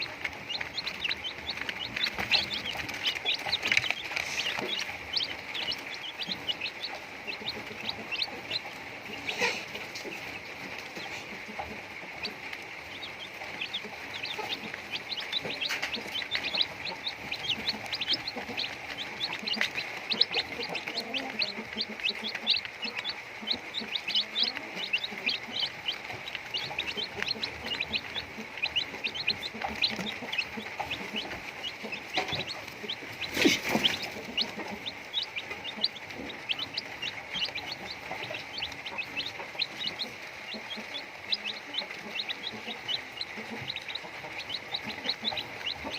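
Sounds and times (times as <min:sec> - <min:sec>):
chickens clucking and cheeping: 0:00.0 - 0:45.9.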